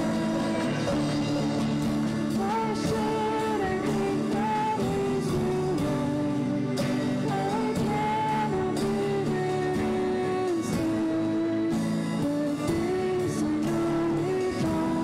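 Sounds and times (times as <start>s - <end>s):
acoustic guitar: 0.0s - 15.0s
drum kit: 0.0s - 15.0s
piano: 0.0s - 15.0s.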